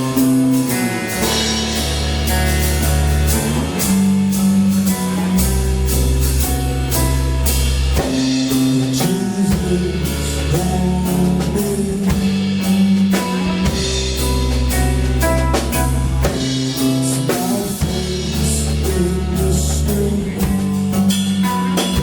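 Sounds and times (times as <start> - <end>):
drum kit steady beat: 0.0 - 22.0
guitar: 0.0 - 22.0
held bass notes: 0.0 - 22.0.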